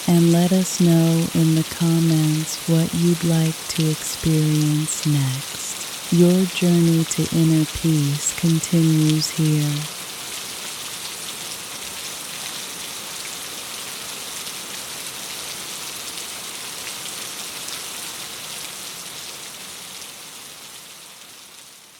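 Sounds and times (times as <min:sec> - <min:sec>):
rain on a window: 0:00.0 - 0:21.9.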